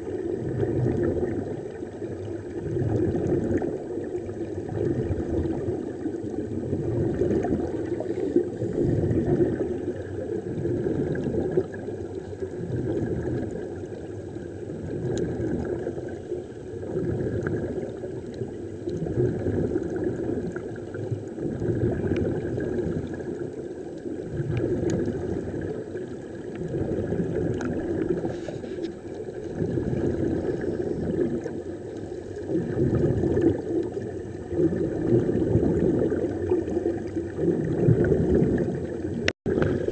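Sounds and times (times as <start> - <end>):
muffled underwater bubbling: 0.0 - 39.9
water rushing underwater: 0.0 - 39.9.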